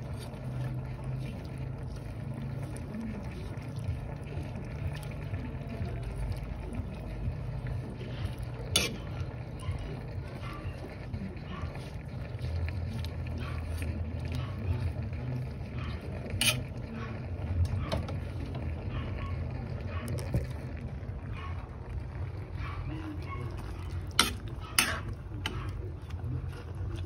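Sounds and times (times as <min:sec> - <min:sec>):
spoon stirring leaves in a pot: 0:00.0 - 0:18.7, 0:22.7 - 0:27.0.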